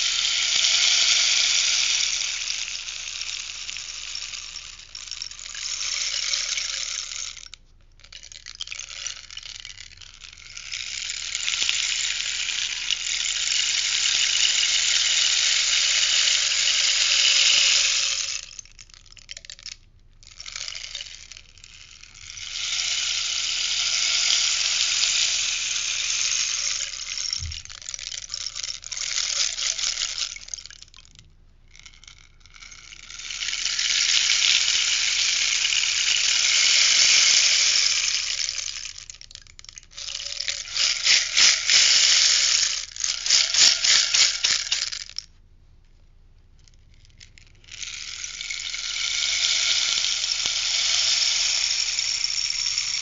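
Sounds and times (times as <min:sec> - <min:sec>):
rainstick beads rushing: 0:00.0 - 0:45.3, 0:46.6 - 0:53.0
rainstick quick rattles: 0:00.0 - 0:45.4, 0:46.6 - 0:53.0.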